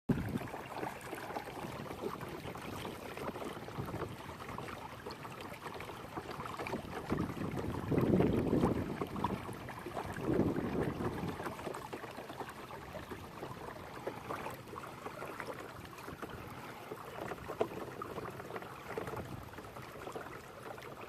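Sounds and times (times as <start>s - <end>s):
water splashing along kayak hull: 0.1s - 21.0s.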